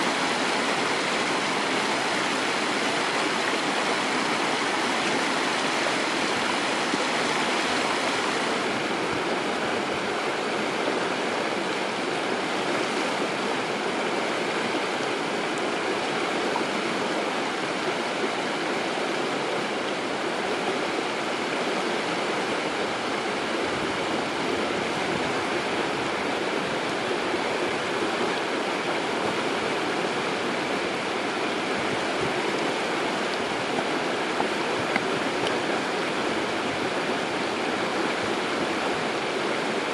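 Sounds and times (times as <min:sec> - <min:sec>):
stream rushing over riffles: 0:00.0 - 0:39.9.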